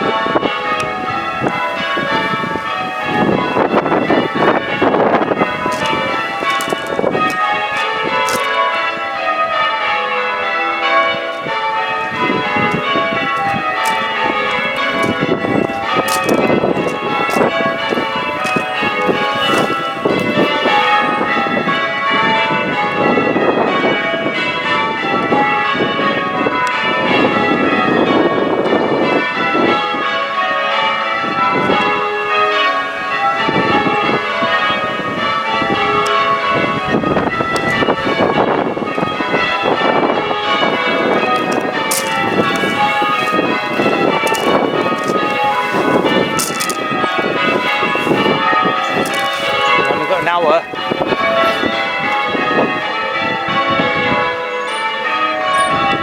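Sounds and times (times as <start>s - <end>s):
church bells ringing changes: 0.0s - 56.0s.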